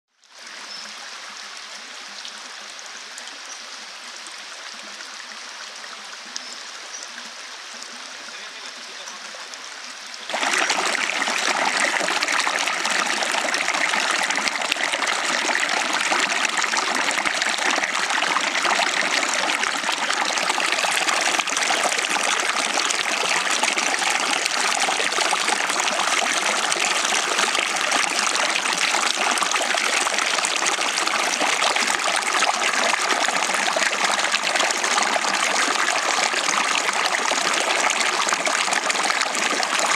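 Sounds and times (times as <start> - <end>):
stream trickling: 0.1 - 39.9.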